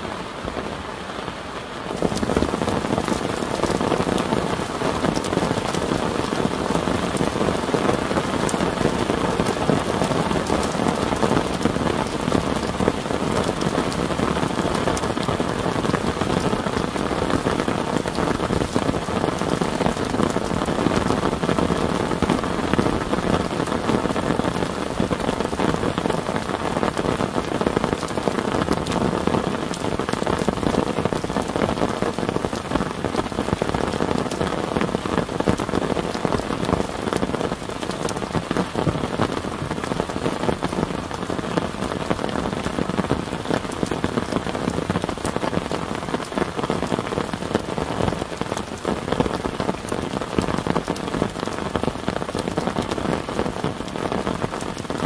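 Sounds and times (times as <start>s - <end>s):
heavy rain on plastic tarp: 0.0s - 55.0s.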